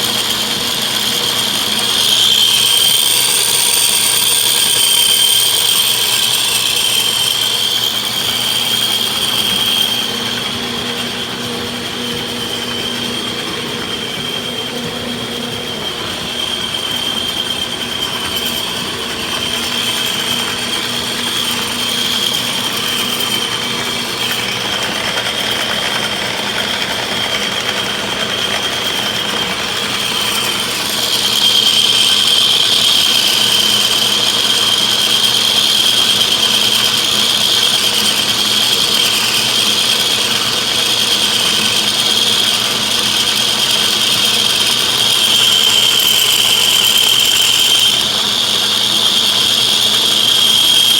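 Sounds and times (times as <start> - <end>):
machine tool cutting steel: 0.0 - 50.9.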